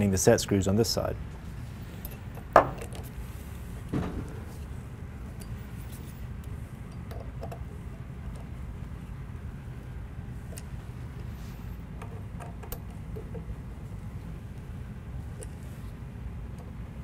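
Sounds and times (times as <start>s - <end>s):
low workshop hum: 0.0s - 17.0s.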